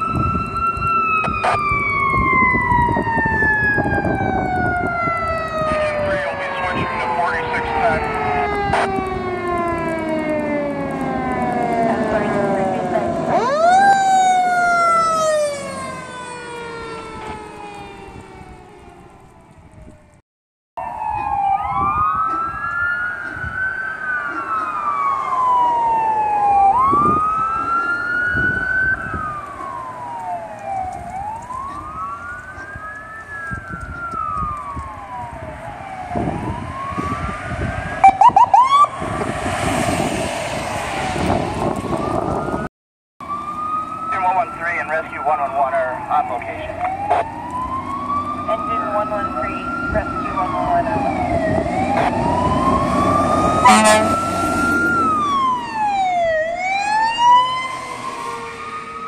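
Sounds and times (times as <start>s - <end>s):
electronic sirens wailing: 0.0s - 20.2s, 20.8s - 59.0s.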